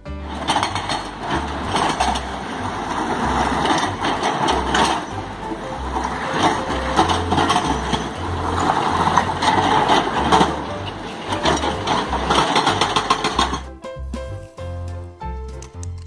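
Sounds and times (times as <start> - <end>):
background music with bass line: 0.0 - 16.0
plastic toy vehicles clattering: 0.2 - 13.7.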